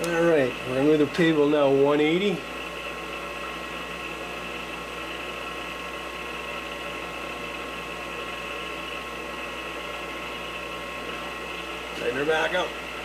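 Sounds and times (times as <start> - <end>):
milling machine spindle whine: 0.0 - 13.0.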